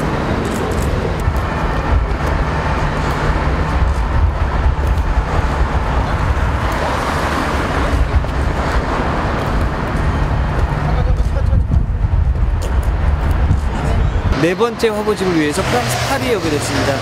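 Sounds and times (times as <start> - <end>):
road traffic hum: 0.0 - 17.0.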